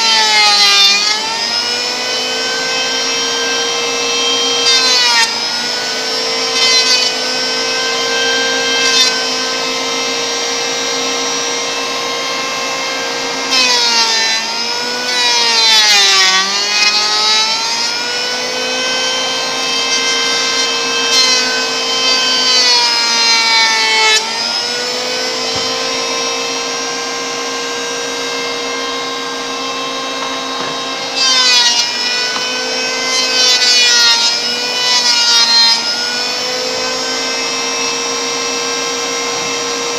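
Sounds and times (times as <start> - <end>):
electric planer whining: 0.0 - 39.9
rasping wood shaving: 0.0 - 39.9.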